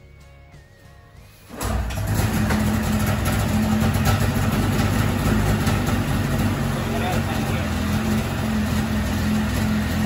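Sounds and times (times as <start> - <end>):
snowmobile engine starting and idling: 1.4 - 10.0.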